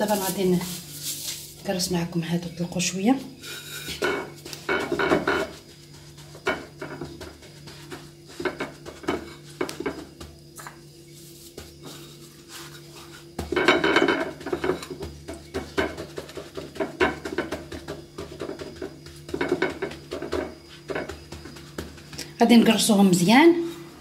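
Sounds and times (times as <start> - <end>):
dough scraping on gritty plate: 0.0 - 1.7, 3.2 - 23.9.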